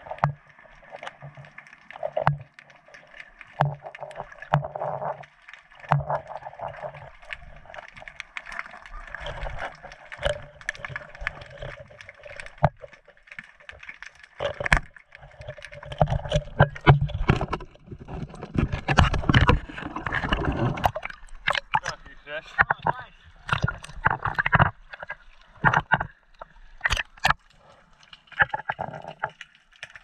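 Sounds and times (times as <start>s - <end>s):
muffled underwater rush: 0.0s - 30.0s
underwater clicks and knocks: 0.0s - 30.0s
water splashing: 0.0s - 30.0s.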